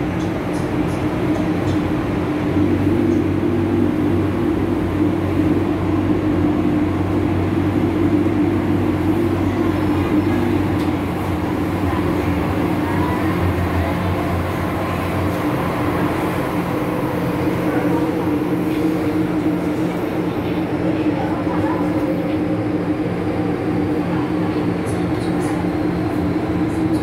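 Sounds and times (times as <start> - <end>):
subway train rumbling through tunnel: 0.0 - 27.0.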